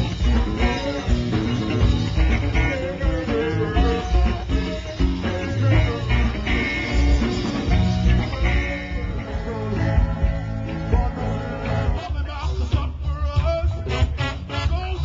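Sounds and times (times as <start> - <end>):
person singing into microphone: 0.0 - 7.2, 7.8 - 15.0
live band playing upbeat music: 0.0 - 15.0.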